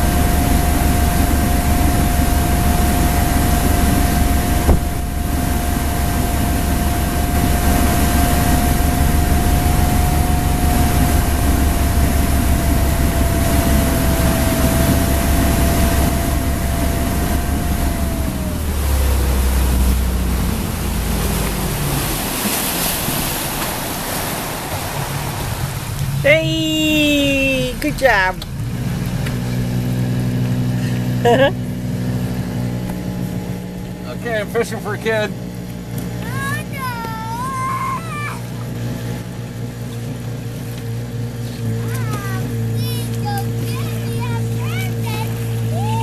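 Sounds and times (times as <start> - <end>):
motorboat engine whine: 0.0 - 46.0
rush of wind and water: 0.0 - 46.0.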